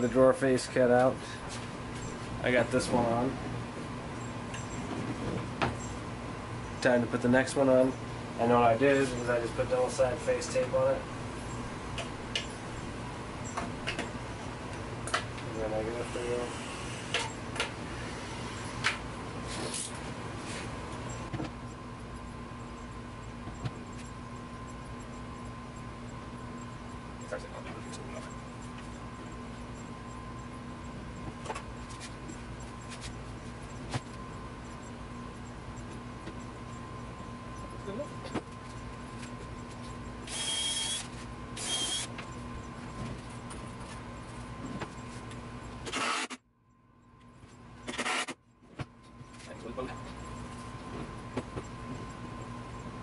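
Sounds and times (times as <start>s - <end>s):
steady background hum: 0.0s - 53.0s.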